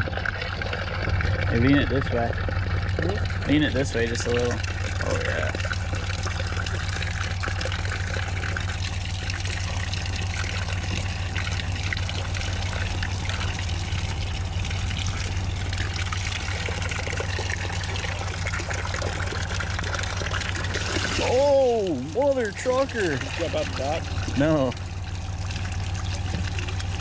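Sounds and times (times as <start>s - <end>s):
constant low hum: 0.0s - 27.0s
water pouring and splashing: 0.0s - 27.0s.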